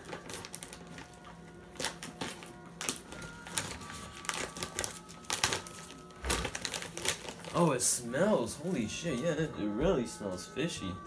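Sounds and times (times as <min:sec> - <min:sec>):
plastic pouch crinkling: 0:00.0 - 0:09.5.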